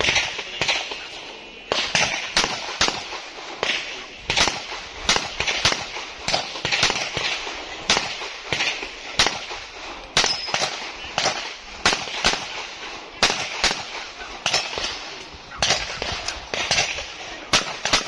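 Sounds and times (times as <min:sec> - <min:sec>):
pistol shots: 0:00.0 - 0:18.0.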